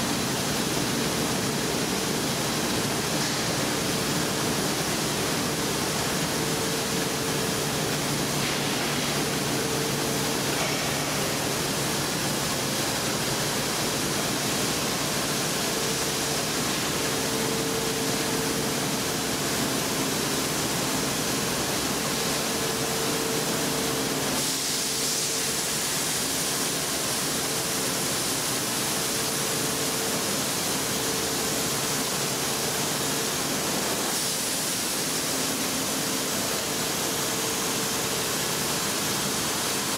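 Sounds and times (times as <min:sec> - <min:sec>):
faint machine hum: 0:00.0 - 0:39.9.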